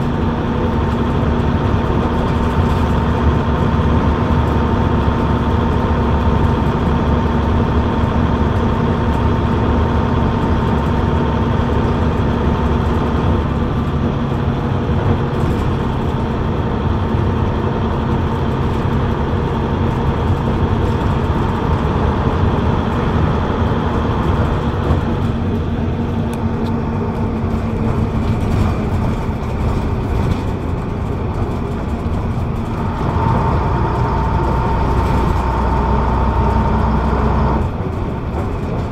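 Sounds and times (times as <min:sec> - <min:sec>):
bus diesel engine running: 0:00.0 - 0:38.9
road and body noise: 0:00.0 - 0:38.9.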